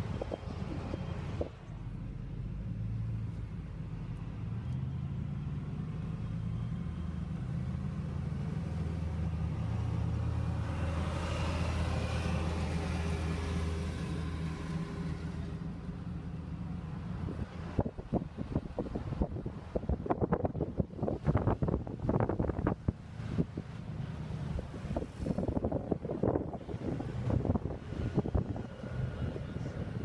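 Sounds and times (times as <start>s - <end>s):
engine low rumble: 0.0s - 30.0s.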